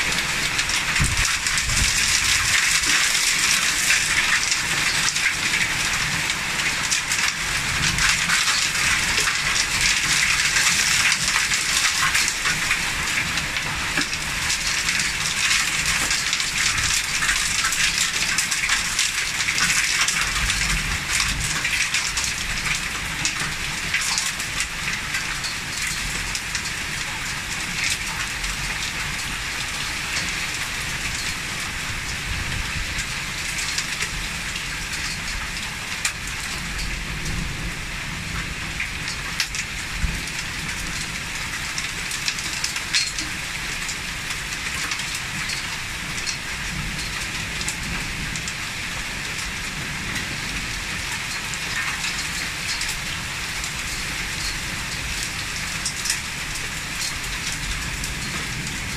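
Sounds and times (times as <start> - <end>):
heavy rain falling: 0.0 - 58.9
raindrops clicking on surfaces: 0.0 - 58.9.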